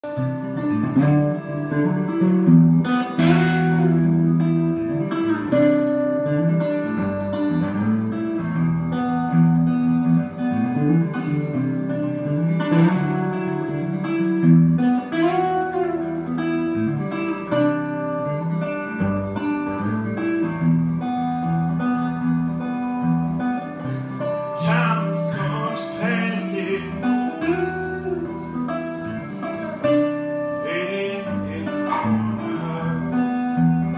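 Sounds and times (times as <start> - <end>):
solo guitar playing: 0.0 - 33.9.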